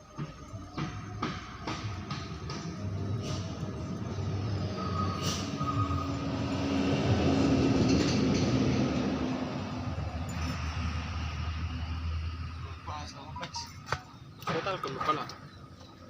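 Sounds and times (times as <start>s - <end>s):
passing vehicle engine rumble: 0.0s - 16.0s.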